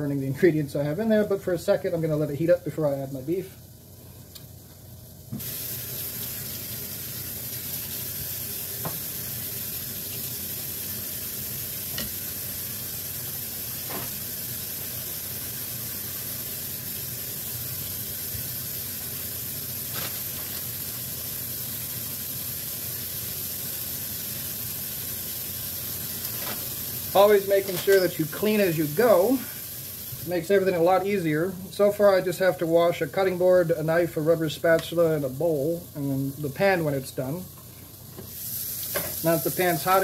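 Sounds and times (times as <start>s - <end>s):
vegetables sizzling in a frying pan: 0.8s - 40.0s.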